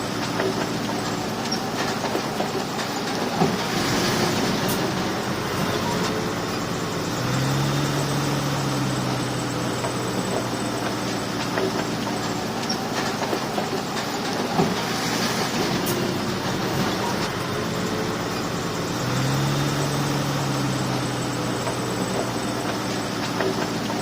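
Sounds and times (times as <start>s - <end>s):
diesel engine running: 0.0s - 24.0s
steel tracks rattling: 0.0s - 24.0s.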